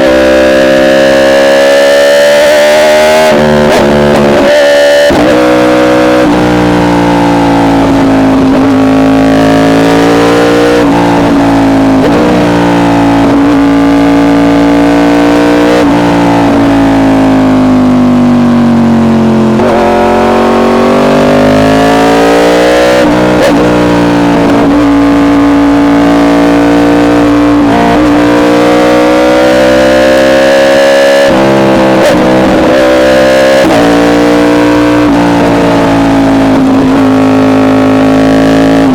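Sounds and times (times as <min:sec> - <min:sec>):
sport bike engine at high revs: 0:00.0 - 0:38.9.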